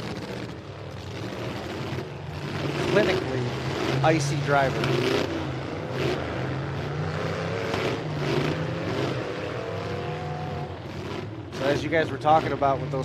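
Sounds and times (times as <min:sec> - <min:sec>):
pickup truck engines revving: 0:00.0 - 0:13.0.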